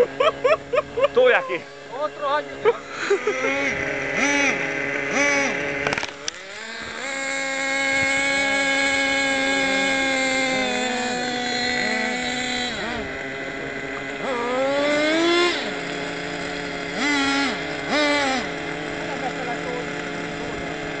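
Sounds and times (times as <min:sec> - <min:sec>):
model car motor revving: 0:00.0 - 0:21.0.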